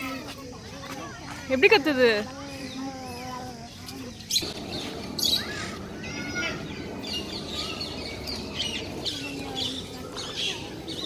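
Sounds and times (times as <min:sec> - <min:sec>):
birds chirping: 0:00.0 - 0:11.0
steady background noise: 0:00.0 - 0:11.0.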